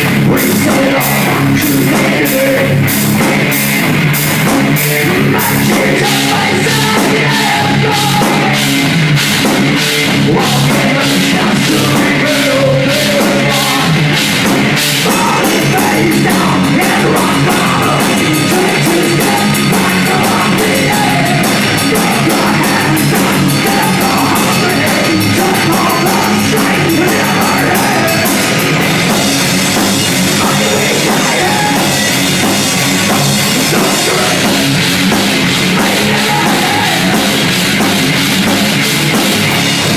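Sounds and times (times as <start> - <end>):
distorted rock guitars: 0.0 - 39.9
drum kit: 0.0 - 39.9.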